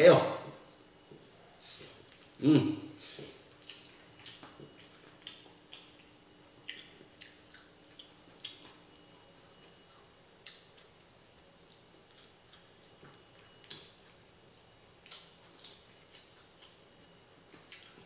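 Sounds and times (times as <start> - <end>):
person chewing food: 0.7 - 18.0.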